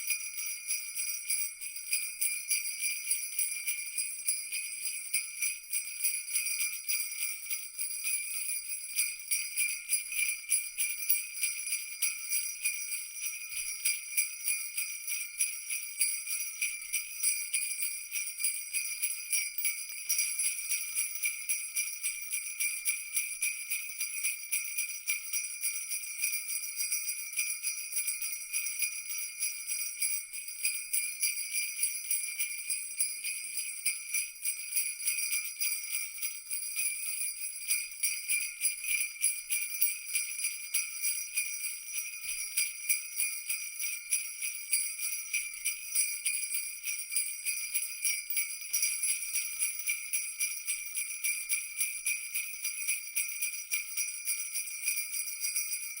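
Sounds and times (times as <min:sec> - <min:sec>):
jingle bells rattling: 0:00.0 - 0:56.0.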